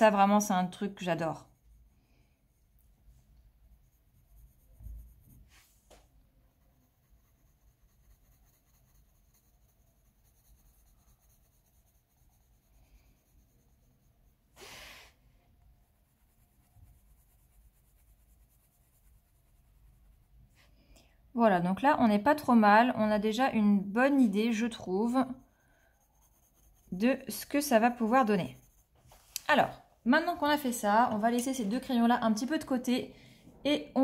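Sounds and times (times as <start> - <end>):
pencil strokes on paper: 0.0 - 20.8, 23.0 - 32.2.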